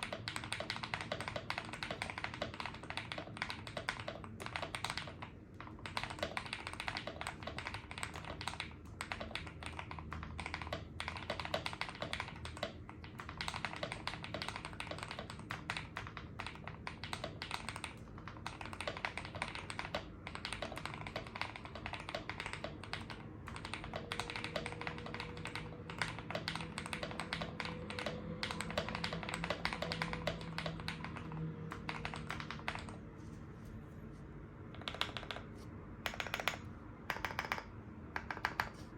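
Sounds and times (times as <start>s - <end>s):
mechanical keyboard typing: 0.0s - 33.1s, 34.7s - 38.9s.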